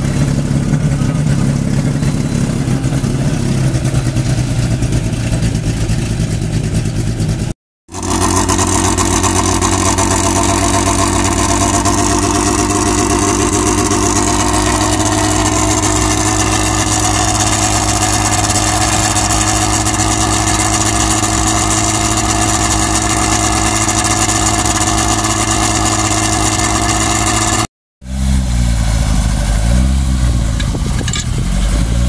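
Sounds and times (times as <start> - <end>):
car engine idling unevenly: 0.0 - 27.6
race car engine idling: 0.0 - 27.7.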